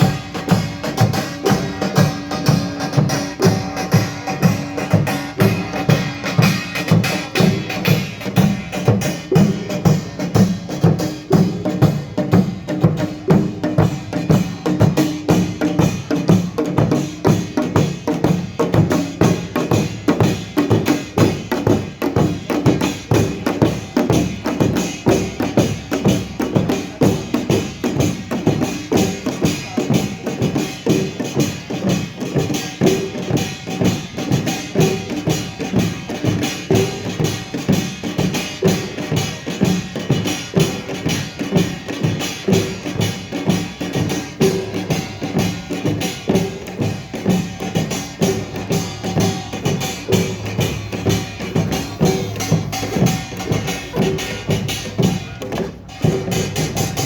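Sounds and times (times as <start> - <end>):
folk percussion band drumming: 0.0 - 57.0.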